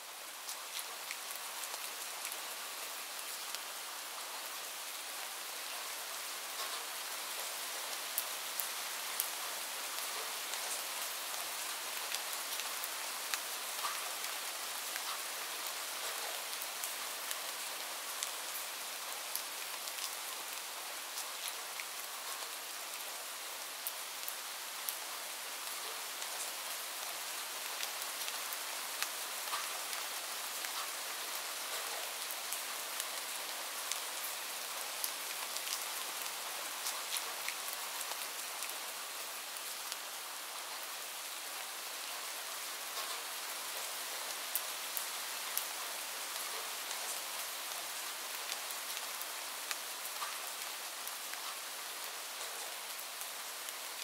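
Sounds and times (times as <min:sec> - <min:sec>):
rain falling into a puddle: 0:00.1 - 0:54.0.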